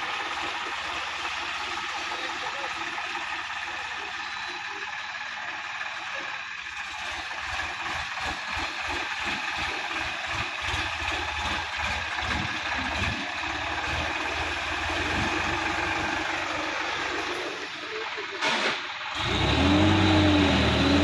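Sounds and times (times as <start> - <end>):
tractor diesel engine chugging: 0.0 - 21.0.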